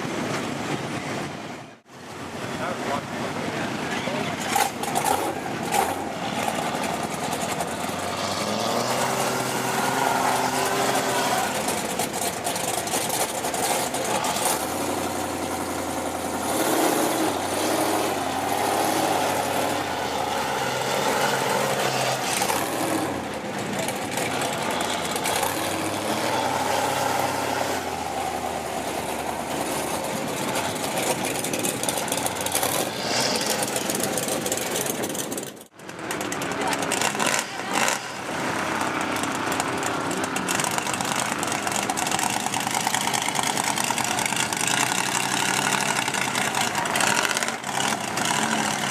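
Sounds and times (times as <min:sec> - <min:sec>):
big truck engine revving: 0:04.0 - 0:48.9.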